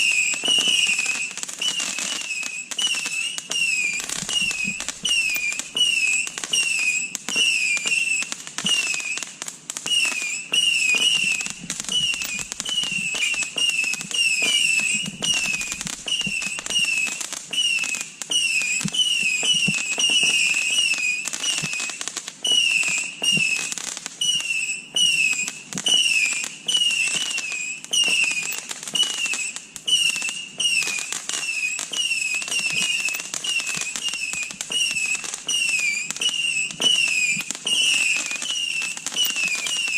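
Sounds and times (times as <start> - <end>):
firework bangs and crackle: 0.0 - 39.9
whistling firework shots: 0.0 - 39.9.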